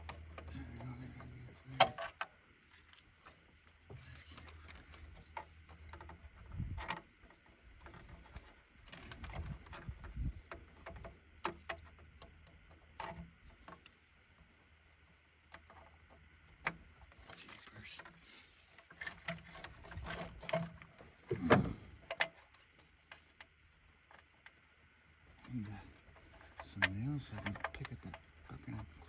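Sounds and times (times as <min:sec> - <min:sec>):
plastic parts clicking and knocking: 0:00.0 - 0:14.0, 0:15.4 - 0:24.7, 0:25.4 - 0:29.0
low steady hum: 0:00.0 - 0:29.0.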